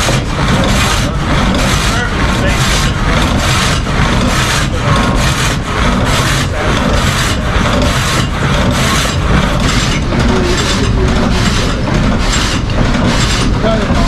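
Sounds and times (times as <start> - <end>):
saw rasping through log: 0.0 - 14.0
steady low rumble: 0.0 - 14.0.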